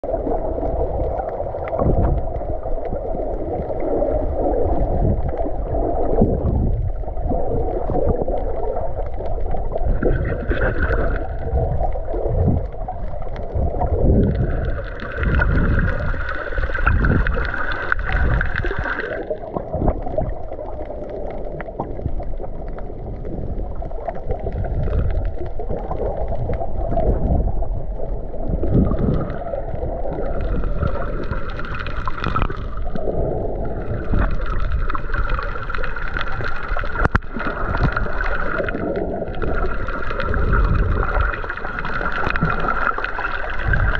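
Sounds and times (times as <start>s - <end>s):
underwater rush and gurgle: 0.0s - 43.9s.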